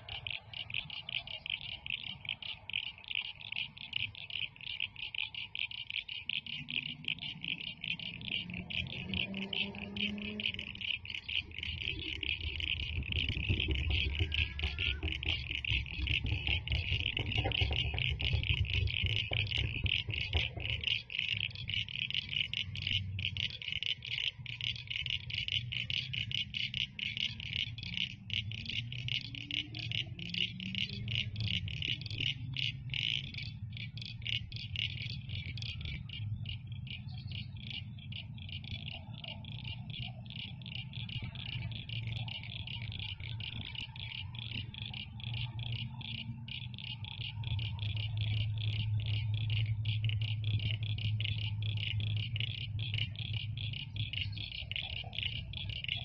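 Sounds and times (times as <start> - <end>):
crickets chirping: 0.0 - 56.0
low steady rumble: 6.4 - 56.0.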